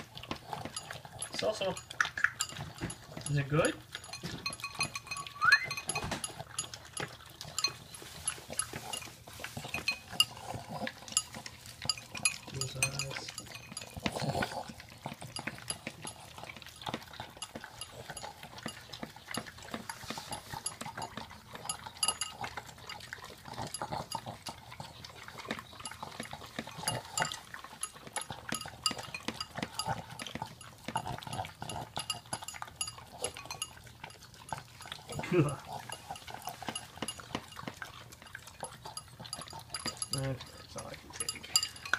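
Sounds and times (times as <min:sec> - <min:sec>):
dog licking and lapping: 0:00.0 - 0:41.9.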